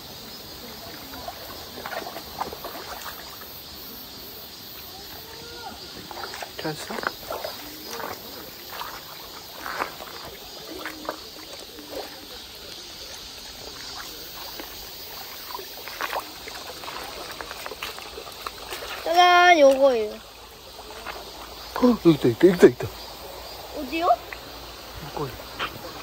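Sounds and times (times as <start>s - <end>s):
stream trickling over stones: 0.0s - 26.0s
feet wading through water: 0.2s - 26.0s.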